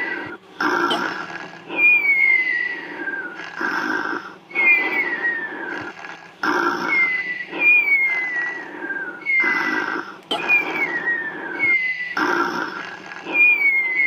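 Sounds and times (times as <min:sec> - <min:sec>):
snoring with high whistle: 0:00.0 - 0:14.0.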